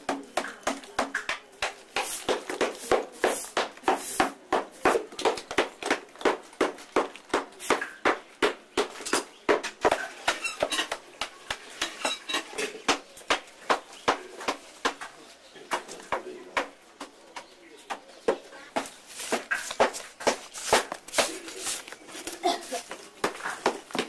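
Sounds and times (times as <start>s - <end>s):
hand tool chipping at clay: 0.0s - 24.0s.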